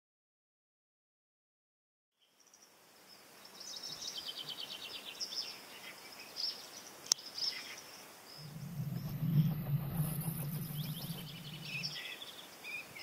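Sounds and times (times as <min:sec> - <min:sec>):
small birds chirping: 0:02.2 - 0:13.0.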